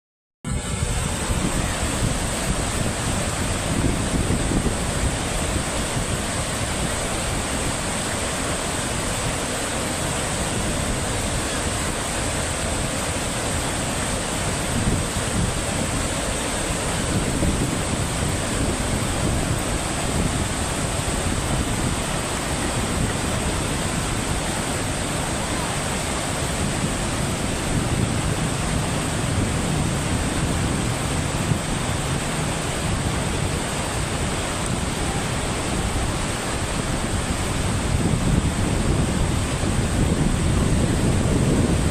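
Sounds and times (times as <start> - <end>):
fast-moving water rushing: 0.5 - 41.9
wind on microphone: 0.5 - 41.9.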